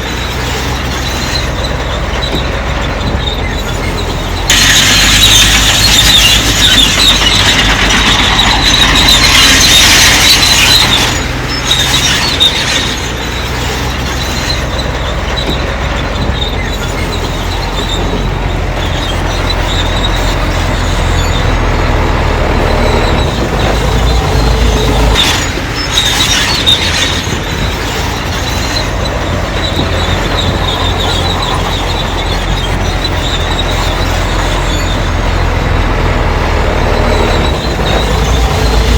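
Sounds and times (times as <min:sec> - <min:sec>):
crawler tracks squealing and clanking: 0:00.0 - 0:38.9
low diesel engine: 0:00.0 - 0:38.9.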